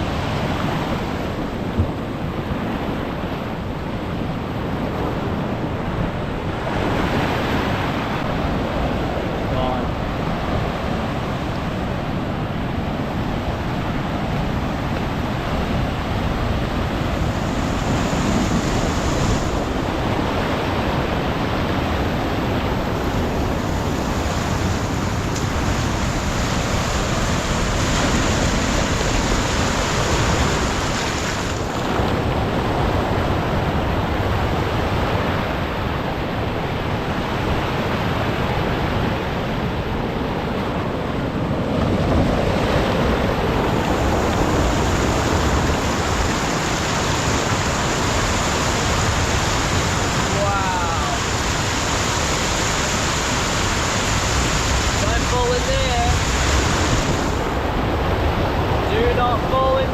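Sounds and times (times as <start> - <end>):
ocean surf rushing over rocks: 0.0 - 59.9
wind buffeting microphone: 0.0 - 59.9.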